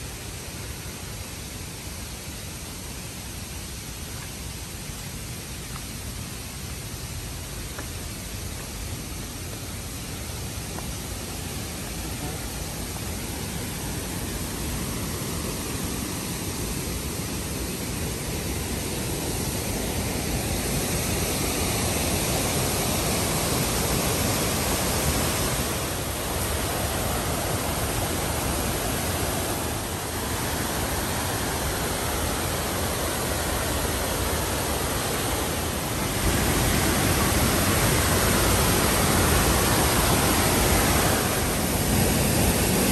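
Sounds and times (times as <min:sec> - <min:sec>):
waterfall rushing over rock: 0:00.0 - 0:42.9.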